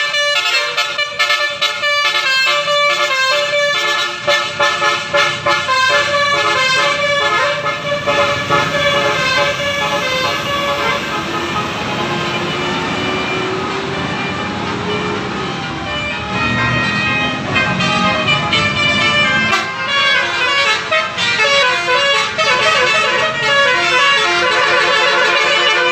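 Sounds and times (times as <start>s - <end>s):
engines and traffic noise: 0.0s - 25.9s
multi-tone bus horns melody: 0.0s - 25.9s.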